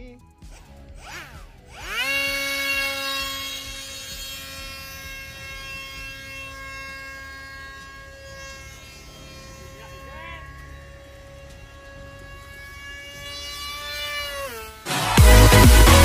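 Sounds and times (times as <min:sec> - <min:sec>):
model plane motor whine: 0:00.4 - 0:16.0.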